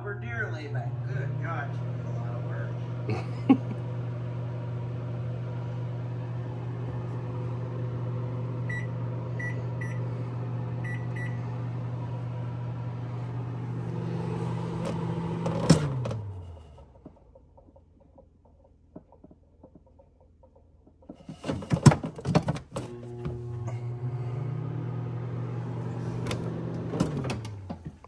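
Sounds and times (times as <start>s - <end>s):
microwave oven humming: 0.0s - 17.3s, 21.3s - 28.0s.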